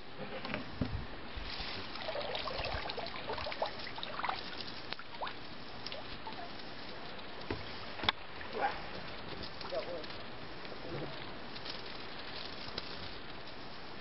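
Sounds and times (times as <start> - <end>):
water trickling and dripping: 1.4 - 13.6.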